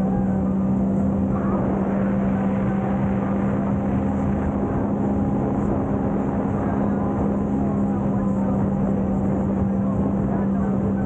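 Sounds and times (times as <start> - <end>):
watercraft engine drone: 0.0 - 11.0
wind and water noise: 0.0 - 11.0.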